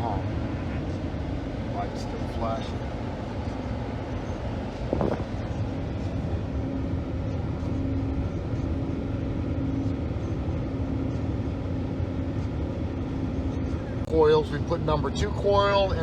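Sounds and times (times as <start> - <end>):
truck cab engine and road noise: 0.0 - 16.0.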